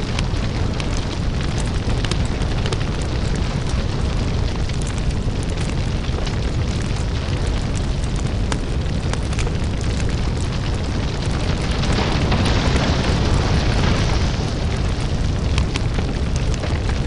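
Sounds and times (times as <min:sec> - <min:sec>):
deep fire rumble: 0:00.0 - 0:17.0
sharp crackles and pops: 0:00.0 - 0:17.0.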